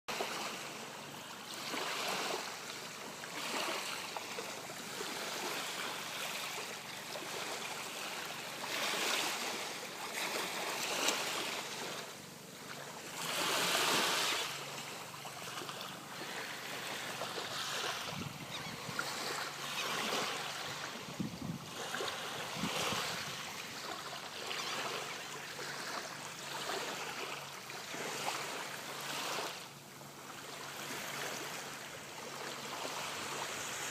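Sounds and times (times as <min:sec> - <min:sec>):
waves breaking on beach: 0:00.1 - 0:33.9.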